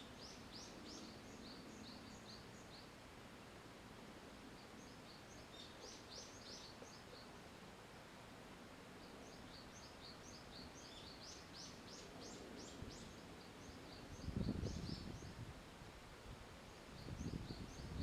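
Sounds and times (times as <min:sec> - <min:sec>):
small songbirds chirping: 0:00.0 - 0:15.6, 0:16.6 - 0:18.0.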